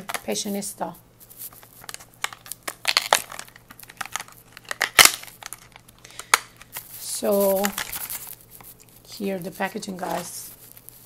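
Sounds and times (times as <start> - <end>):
packaging crinkling and crackling: 1.2 - 11.0.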